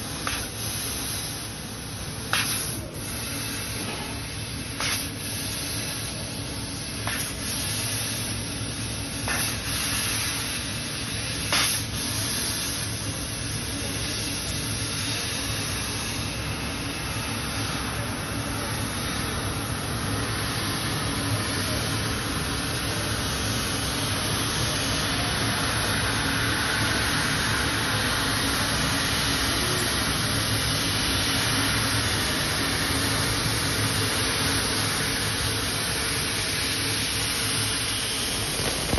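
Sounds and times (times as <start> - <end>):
laser cutter hissing: 0.0 - 38.9.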